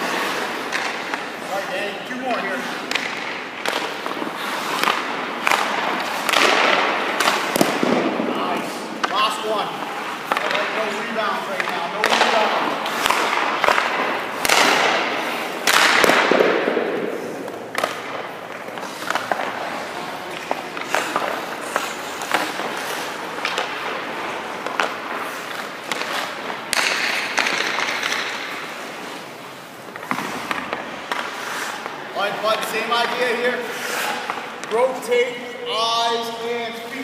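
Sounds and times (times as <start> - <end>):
sharp knocks of sticks and pucks: 0.0 - 37.0
skate blades scraping ice: 0.0 - 37.0.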